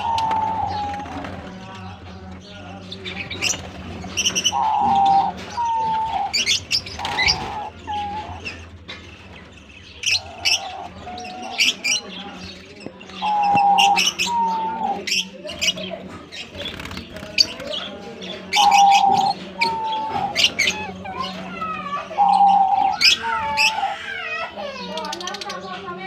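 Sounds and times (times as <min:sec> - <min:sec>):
doves cooing: 0:00.0 - 0:01.9, 0:03.2 - 0:08.9, 0:10.0 - 0:25.6
small birds chirping: 0:00.0 - 0:26.0.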